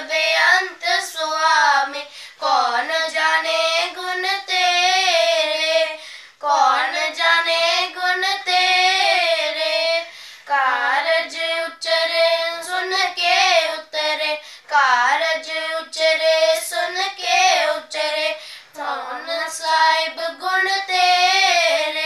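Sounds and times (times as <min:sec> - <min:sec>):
children singing without instruments: 0:00.0 - 0:22.0.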